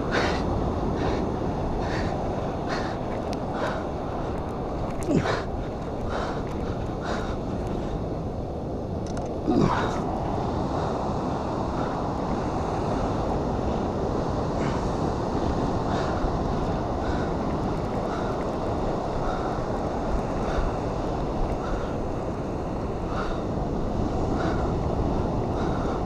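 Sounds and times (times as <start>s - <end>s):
ocean surf washing onto beach: 0.0s - 26.0s
wind rumbling on microphone: 0.0s - 26.0s.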